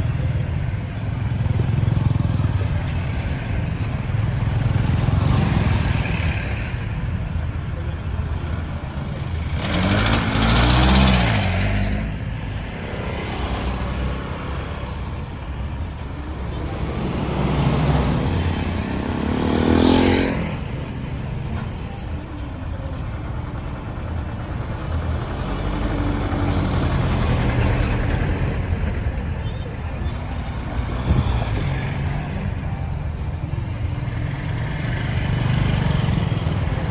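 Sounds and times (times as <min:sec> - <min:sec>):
motor vehicles passing: 0:00.0 - 0:36.9
road traffic rumble: 0:00.0 - 0:36.9.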